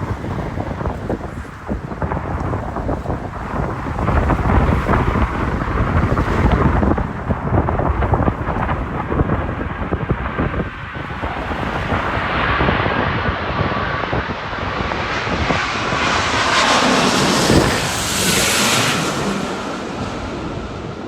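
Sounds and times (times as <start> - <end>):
jet engines passing: 0.0 - 21.0
wind buffeting microphone: 0.0 - 21.0.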